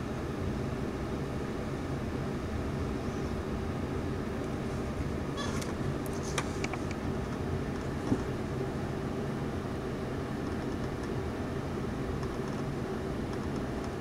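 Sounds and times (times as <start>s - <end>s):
machinery hum with hiss: 0.0s - 14.0s.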